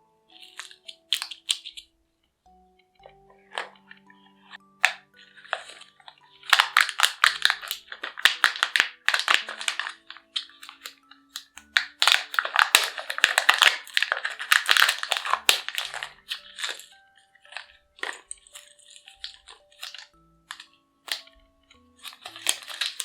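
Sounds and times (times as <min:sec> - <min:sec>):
faint background music: 0:00.0 - 0:23.0
plastic wrapping crinkling: 0:00.3 - 0:02.0, 0:03.0 - 0:23.0.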